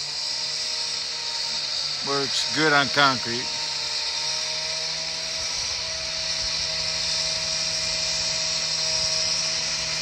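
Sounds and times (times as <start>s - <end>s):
chainsaw cutting concrete: 0.0s - 10.0s.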